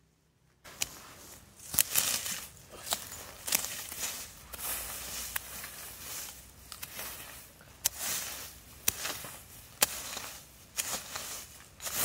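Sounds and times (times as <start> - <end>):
knife sweeping dry grass: 0.7 - 12.0.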